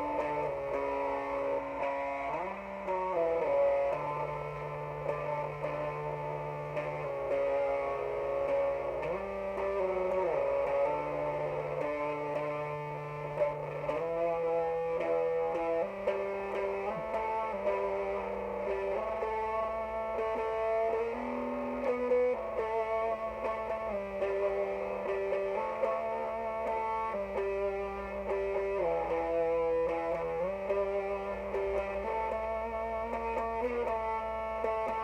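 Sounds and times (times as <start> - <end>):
distorted electric guitar: 0.0 - 35.0.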